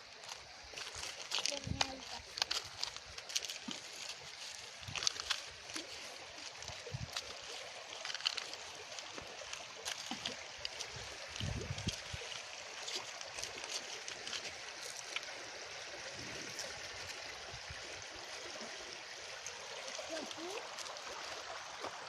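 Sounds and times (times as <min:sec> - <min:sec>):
water gurgling through channel: 0:00.1 - 0:22.0.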